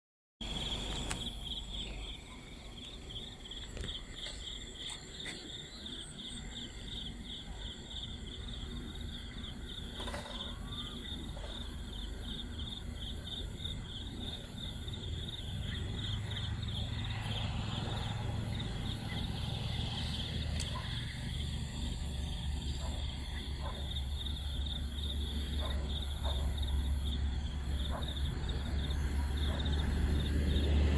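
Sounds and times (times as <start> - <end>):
insects chirping trill: 0.4 - 30.9.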